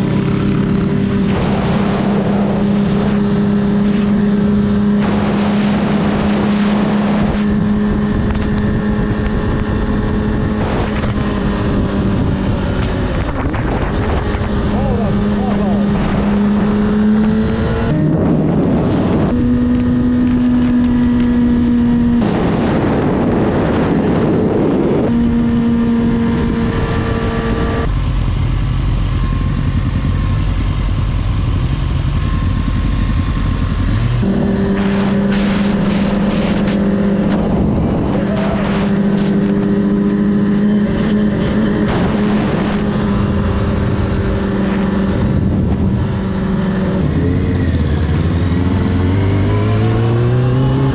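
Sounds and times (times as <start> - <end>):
motorcycle engine revving: 0.0 - 50.9
wind noise: 0.0 - 50.9.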